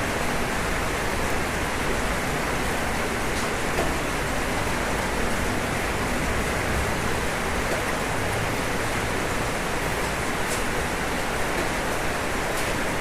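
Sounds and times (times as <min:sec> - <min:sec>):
rain falling on a roof: 0:00.0 - 0:13.0.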